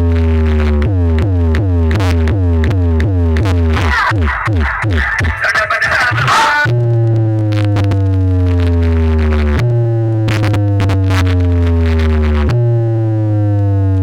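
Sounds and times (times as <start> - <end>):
synthesizer bass with gliding tones: 0.0 - 14.0.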